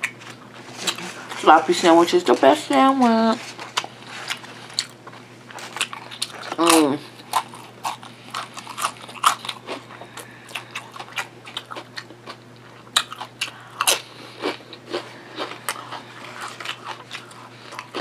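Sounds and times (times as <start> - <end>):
chewing crunchy chips: 3.5 - 18.0.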